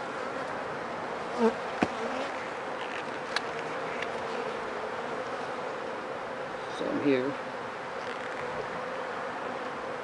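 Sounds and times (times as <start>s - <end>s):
bee passing close: 0.0s - 10.0s
bees buzzing: 0.0s - 10.0s.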